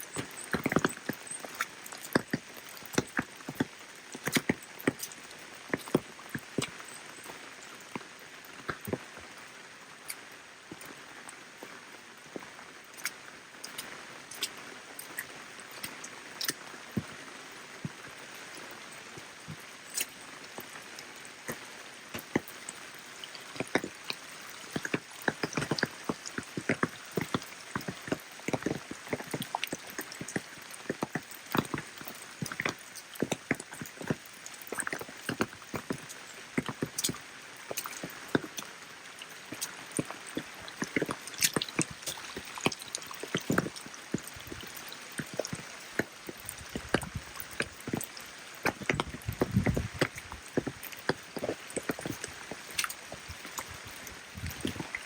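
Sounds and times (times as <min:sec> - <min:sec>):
heavy raindrops pattering: 0:00.0 - 0:55.0
rainfall hiss: 0:00.0 - 0:55.0.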